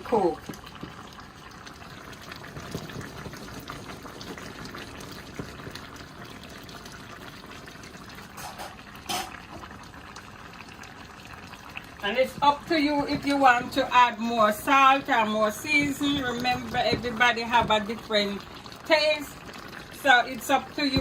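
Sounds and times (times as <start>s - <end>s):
sauce bubbling in a pot: 0.0s - 21.0s.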